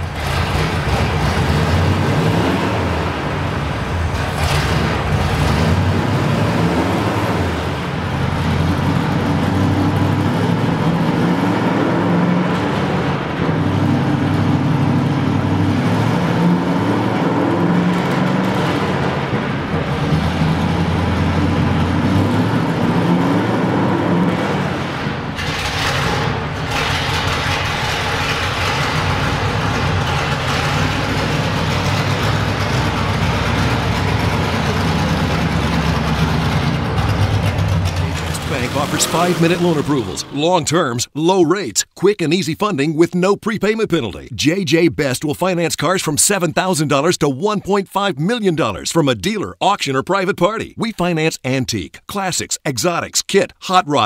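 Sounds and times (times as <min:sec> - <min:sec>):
truck engine running: 0:00.0 - 0:46.7.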